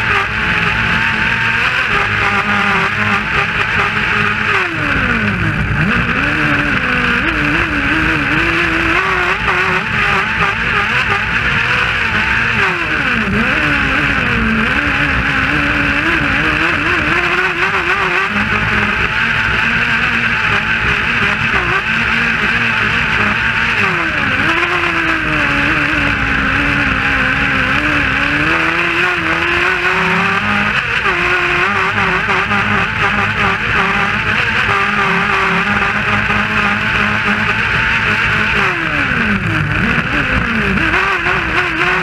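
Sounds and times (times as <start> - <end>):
motorcycle engine racing at high revs: 0.0 - 42.0.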